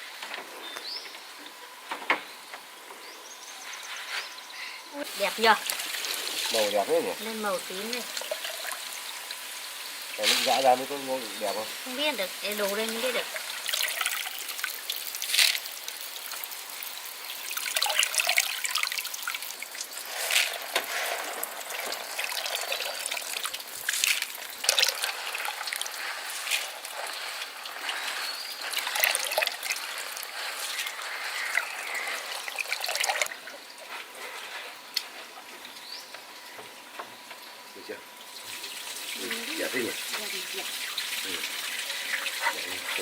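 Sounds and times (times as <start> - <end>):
poured water splashing: 5.1 - 36.5, 38.1 - 43.0.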